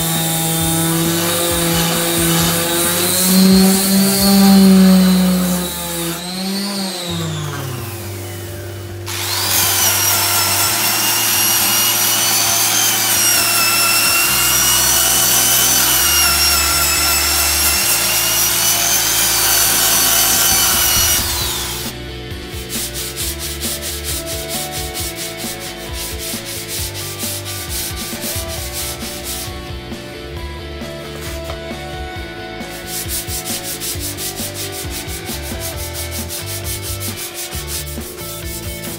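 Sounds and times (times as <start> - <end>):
sandpaper rubbed on wood: 0.0 - 8.1, 9.1 - 29.8, 31.1 - 31.6, 32.6 - 38.9
rotary tool sanding wood: 0.0 - 30.0, 32.6 - 38.9.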